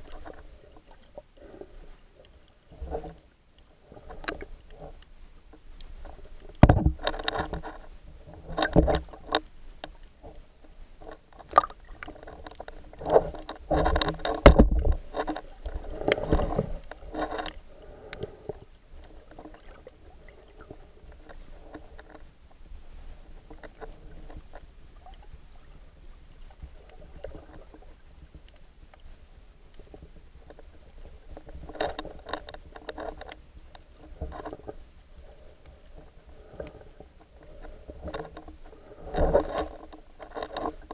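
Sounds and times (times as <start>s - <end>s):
underwater swishing and bubbling: 0.0s - 40.9s.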